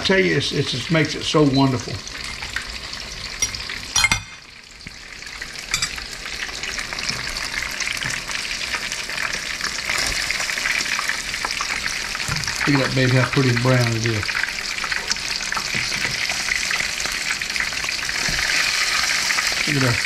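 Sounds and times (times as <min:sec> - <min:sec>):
fish frying in hot oil: 0:00.1 - 0:20.0.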